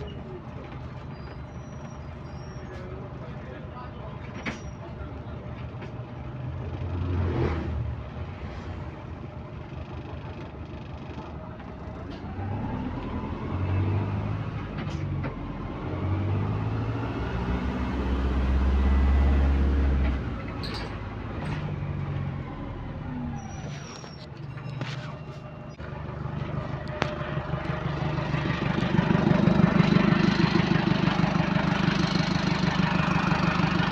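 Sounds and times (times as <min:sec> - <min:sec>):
bus engine pulling away: 0:00.0 - 0:33.9.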